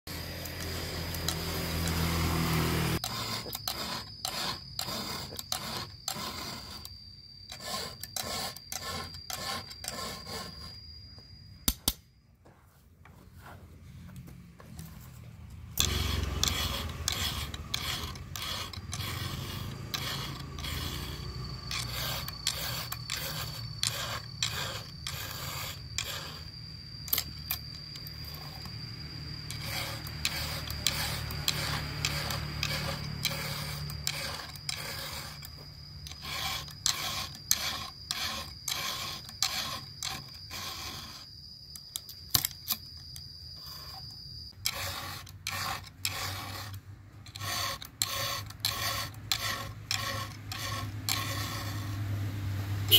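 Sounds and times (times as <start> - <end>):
file rasping on chainsaw chain: 0.1 - 10.9, 15.8 - 41.3, 43.6 - 52.3.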